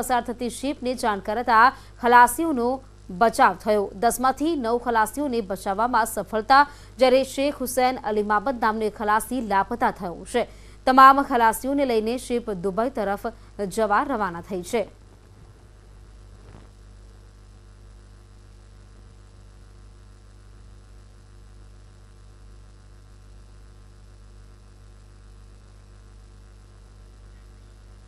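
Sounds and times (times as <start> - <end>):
low mains hum: 0.0 - 28.0.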